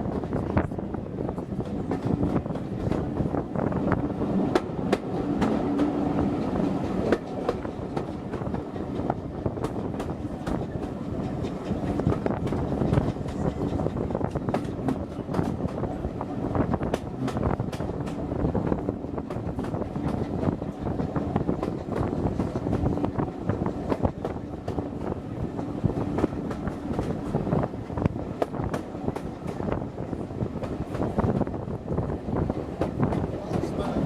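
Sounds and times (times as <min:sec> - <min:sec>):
train running gear rumble: 0:00.0 - 0:34.0
wind on microphone: 0:00.0 - 0:34.0.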